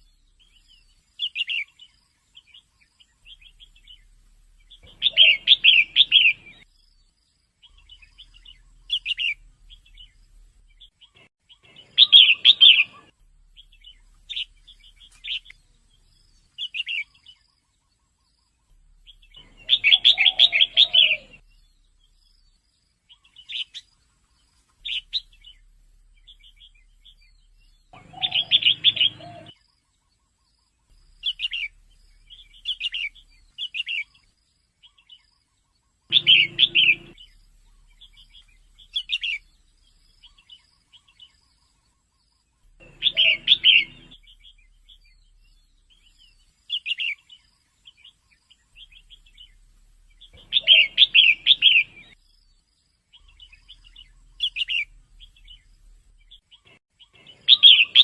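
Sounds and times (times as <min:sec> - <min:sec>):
bird chirping and trilling: 0:00.0 - 0:06.9, 0:07.7 - 0:17.5, 0:18.3 - 0:22.5, 0:24.8 - 0:29.6, 0:31.1 - 0:34.2, 0:36.1 - 0:52.5, 0:53.1 - 0:58.0.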